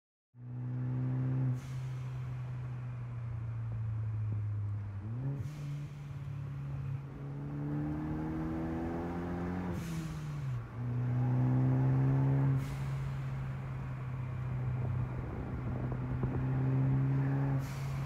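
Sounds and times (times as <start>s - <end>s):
car engine revving: 0.4s - 18.0s.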